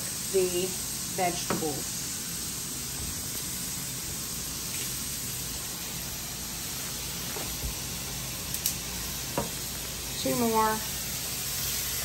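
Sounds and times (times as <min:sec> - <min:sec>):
steaks sizzling in a pan: 0:00.0 - 0:12.0.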